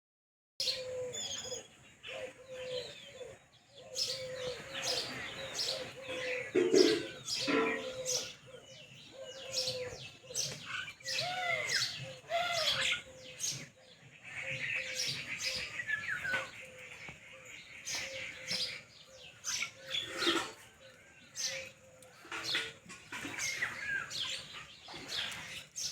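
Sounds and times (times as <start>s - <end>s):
parrots chirping and chattering: 0.6s - 25.9s.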